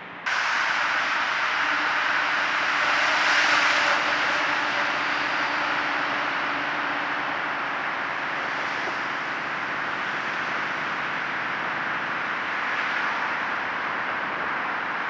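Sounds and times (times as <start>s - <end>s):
steady rushing noise: 0.2s - 15.0s.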